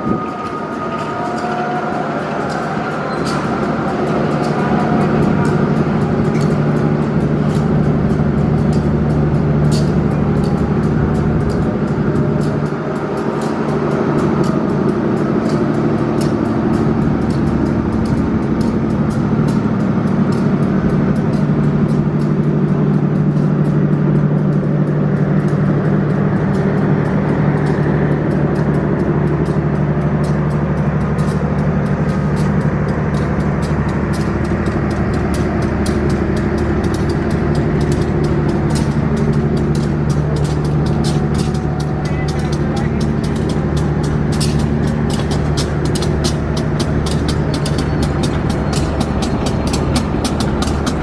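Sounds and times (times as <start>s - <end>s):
diesel engines humming: 0.0s - 51.0s
train wheels clicking over rail joints: 0.0s - 51.0s.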